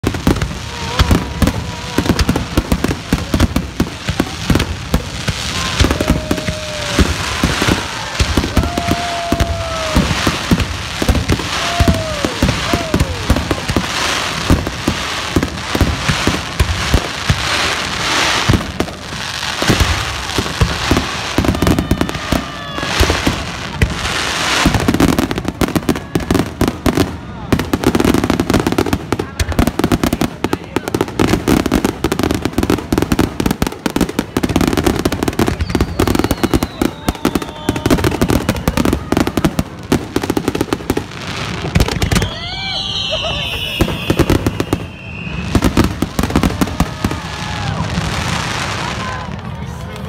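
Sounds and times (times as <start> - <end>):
fireworks bursting: 0.0 - 50.0
fireworks crackling: 0.0 - 50.0.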